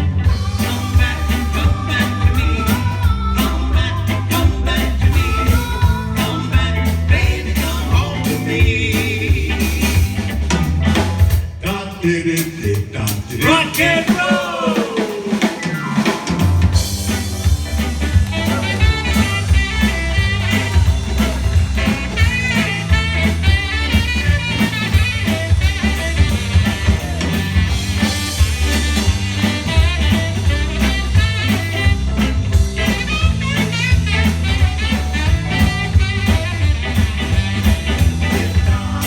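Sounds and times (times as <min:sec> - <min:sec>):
bass guitar: 0:00.0 - 0:39.0
drum beat: 0:00.2 - 0:11.6, 0:13.1 - 0:39.0.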